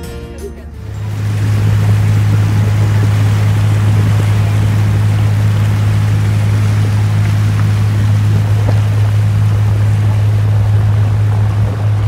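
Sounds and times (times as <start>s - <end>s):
boat engine droning: 0.0s - 12.0s
water churning in wake: 0.8s - 12.0s.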